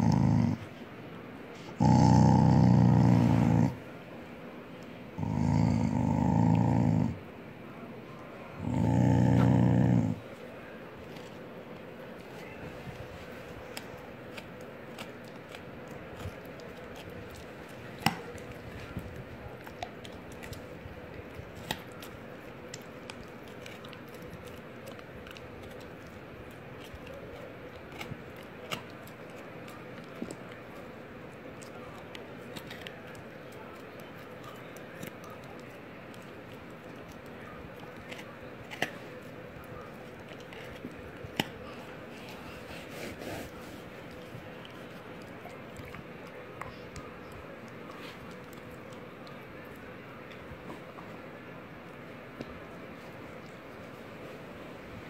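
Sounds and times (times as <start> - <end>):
faint steady hum: 0.0 - 55.0
dogs licking and chewing: 8.0 - 55.0.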